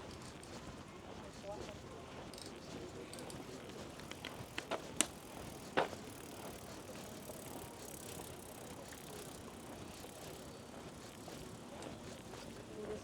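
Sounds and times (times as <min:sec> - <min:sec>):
quiet street ambience: 0:00.0 - 0:13.0.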